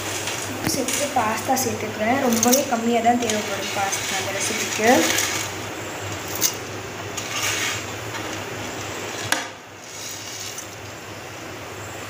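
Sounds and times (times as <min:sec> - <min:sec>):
metal spoon stirring in steel pot: 0:00.8 - 0:10.8.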